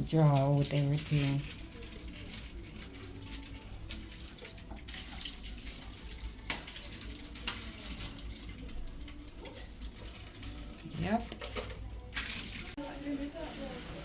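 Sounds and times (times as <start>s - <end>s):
water running: 0.0s - 14.0s.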